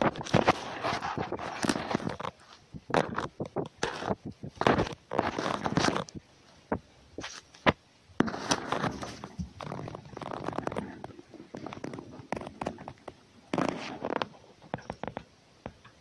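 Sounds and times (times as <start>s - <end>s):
fox muzzle rustling against phone: 0.0s - 6.2s, 7.2s - 15.2s.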